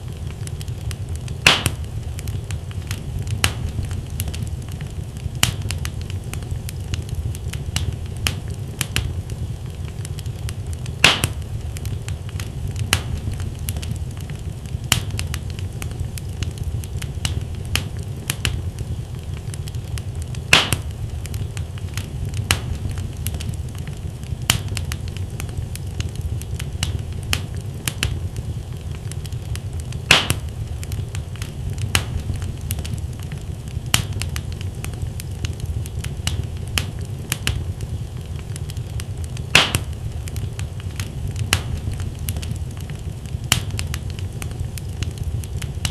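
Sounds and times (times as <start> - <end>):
burning logs snapping: 0.0 - 45.9
loud fire pops: 0.0 - 45.9
low rumble of flames: 0.0 - 45.9.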